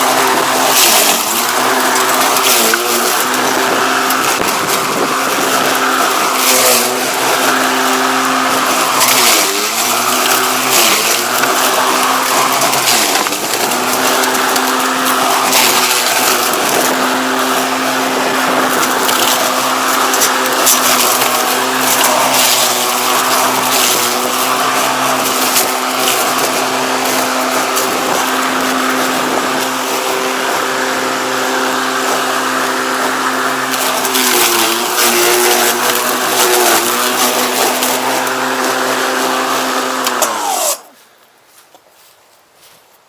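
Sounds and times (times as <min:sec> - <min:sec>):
crackle of material being cut: 0:00.0 - 0:41.0
electric lawnmower whining: 0:00.0 - 0:41.0.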